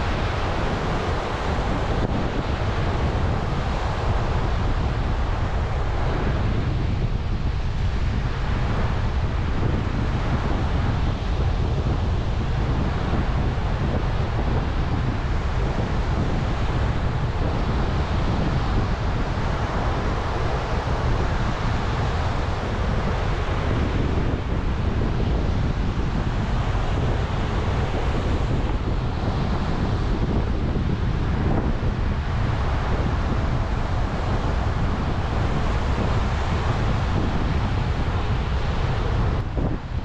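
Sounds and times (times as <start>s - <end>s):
storm wind buffeting microphone: 0.0s - 40.0s
waves breaking on beach: 0.0s - 40.0s.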